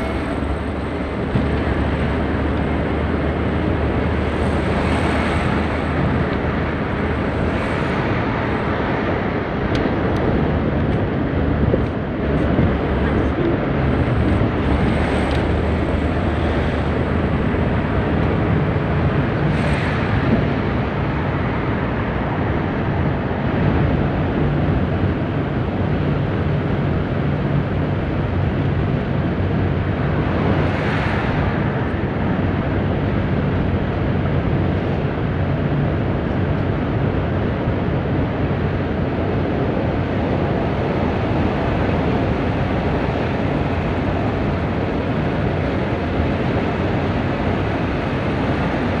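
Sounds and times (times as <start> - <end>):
bus engine running steadily: 0.0 - 49.0
rushing under an overpass: 0.0 - 49.0
tyre and wind noise: 0.0 - 49.0.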